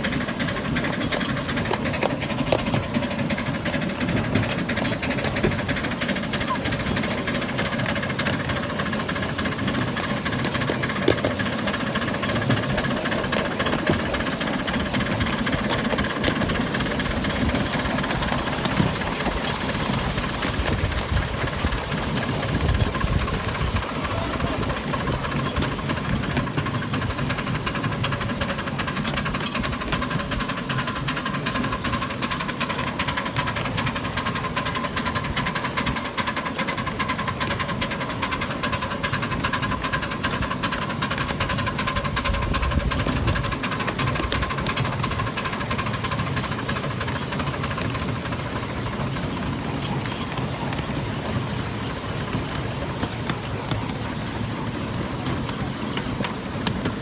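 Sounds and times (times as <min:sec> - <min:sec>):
steam locomotive exhaust beating: 0:00.0 - 0:57.0
wheels clattering on track: 0:00.0 - 0:57.0.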